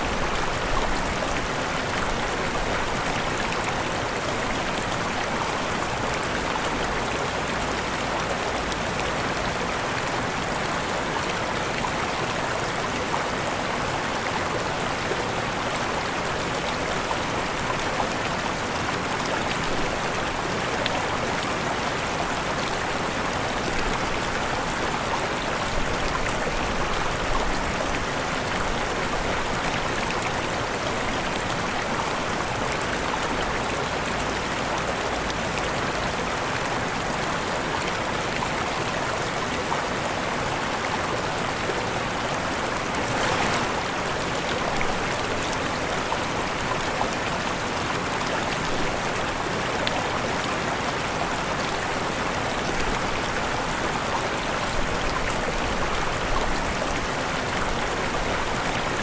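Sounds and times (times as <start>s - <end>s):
waterfall rushing: 9.8s - 59.0s.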